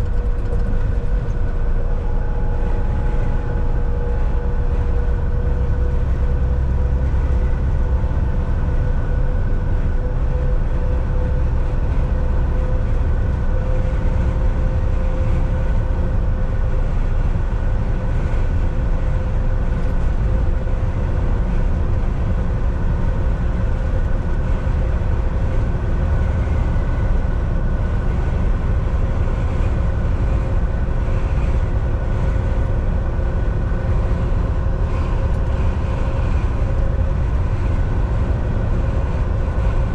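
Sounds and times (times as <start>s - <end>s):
steady whine: 0.0s - 39.9s
truck engine and road rumble: 0.0s - 39.9s.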